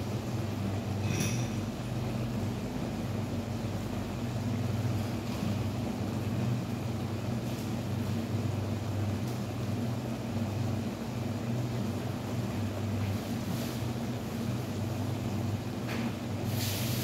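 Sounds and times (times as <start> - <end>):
extractor fan humming: 0.0 - 17.0.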